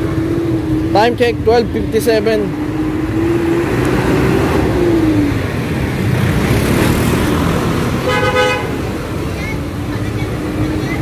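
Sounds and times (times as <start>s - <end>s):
street traffic noise: 0.0s - 11.0s
vehicle engine passing: 0.0s - 11.0s.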